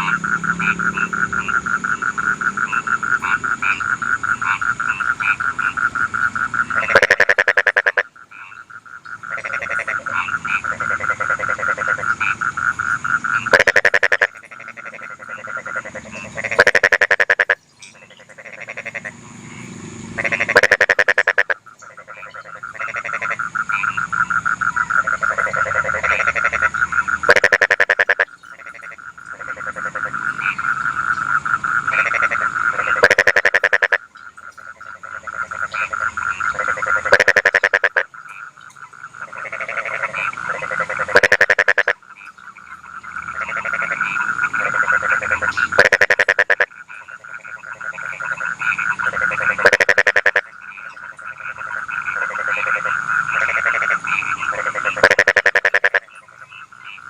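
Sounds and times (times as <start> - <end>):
frogs croaking: 0.0 - 57.0
nearby frog croaking: 0.0 - 57.0.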